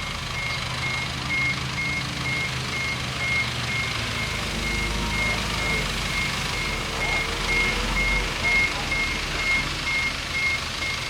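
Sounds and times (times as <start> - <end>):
diesel engine rumble: 0.0 - 11.0
reversing alarm beeping: 0.0 - 11.0.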